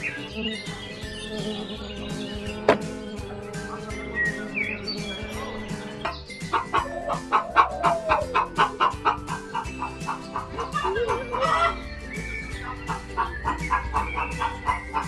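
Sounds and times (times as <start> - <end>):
background music: 0.0 - 15.0
chickens clucking: 0.0 - 15.0.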